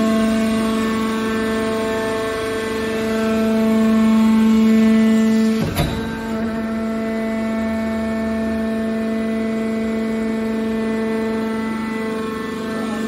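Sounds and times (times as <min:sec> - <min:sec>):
hydraulic pump motor humming: 0:00.0 - 0:13.0.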